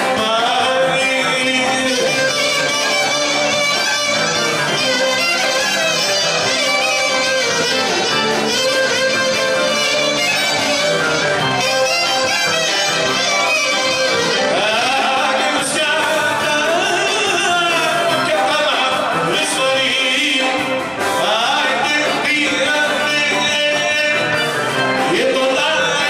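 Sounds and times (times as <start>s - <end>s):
dance music on instruments: 0.0s - 26.0s
person singing: 0.0s - 26.0s.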